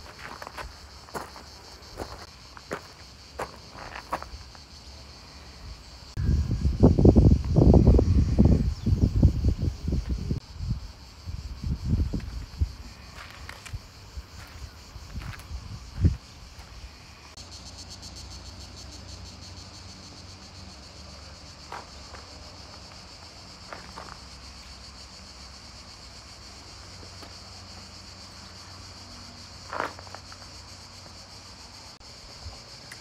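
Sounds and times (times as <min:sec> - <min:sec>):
high-pitched insect chorus: 0:00.0 - 0:33.0.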